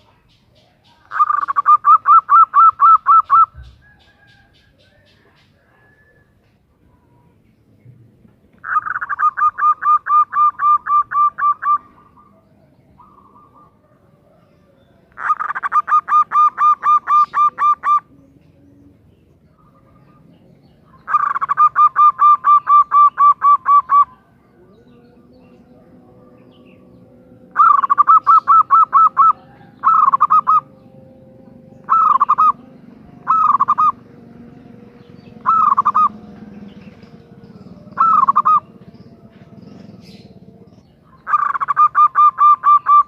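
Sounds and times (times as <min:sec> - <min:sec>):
dove rippling cooing call: 0:00.0 - 0:43.0.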